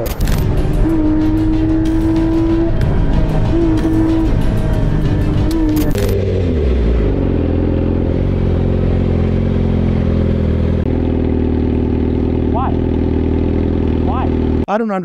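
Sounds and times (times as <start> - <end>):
vehicle engine running steadily: 0.0 - 14.7.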